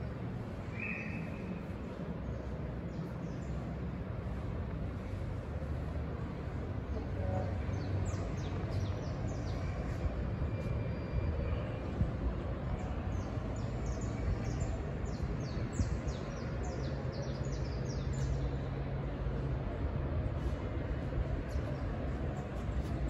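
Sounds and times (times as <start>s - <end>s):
steady low rumble: 0.0s - 16.8s, 17.4s - 23.0s.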